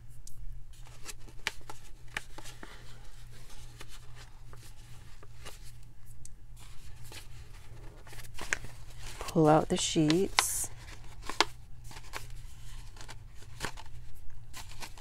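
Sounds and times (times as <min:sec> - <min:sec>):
paper handling: 0:00.7 - 0:15.0.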